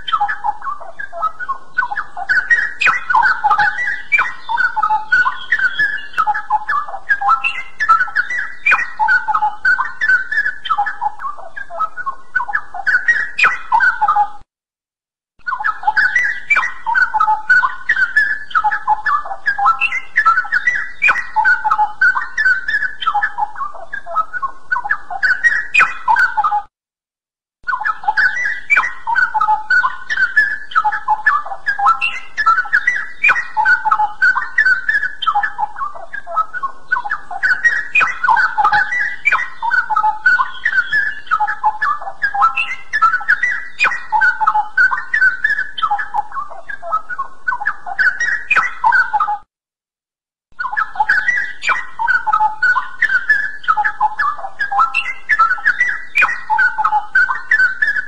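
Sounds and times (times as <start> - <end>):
bird singing whistled phrases: 0.0 - 14.4, 15.4 - 26.7, 27.7 - 49.5, 50.6 - 58.0.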